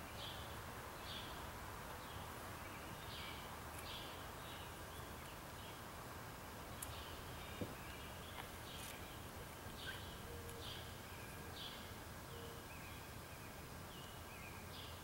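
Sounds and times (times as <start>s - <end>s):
low outdoor hum: 0.0s - 15.0s
songbirds chirping: 0.0s - 15.0s.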